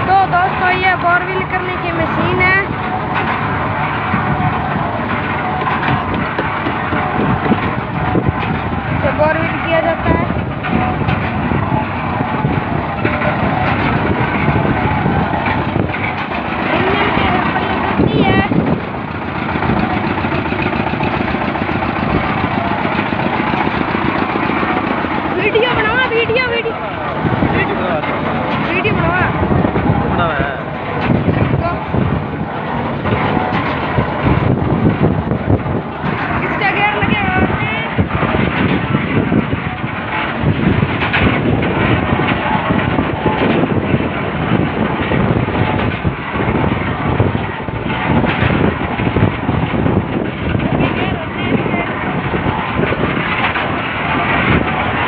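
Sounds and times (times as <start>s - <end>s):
diesel engine chugging: 0.0s - 55.0s
mechanical rattle of gears: 0.2s - 55.0s.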